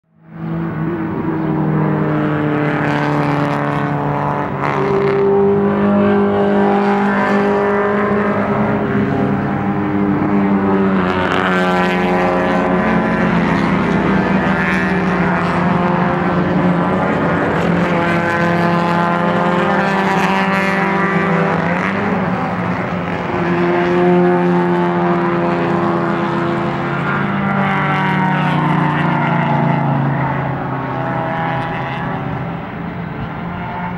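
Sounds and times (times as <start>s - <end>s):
racing cars passing: 0.1s - 33.9s.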